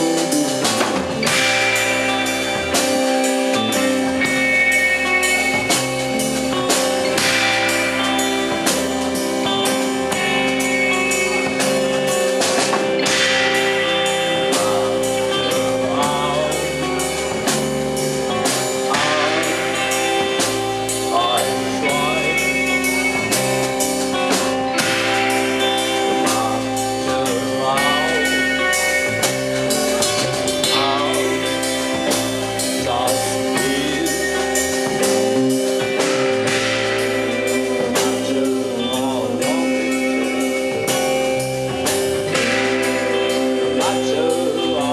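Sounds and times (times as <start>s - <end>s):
drum kit beat: 0.0s - 44.9s
electric guitars and bass droning: 0.0s - 44.9s
person singing: 0.0s - 44.9s.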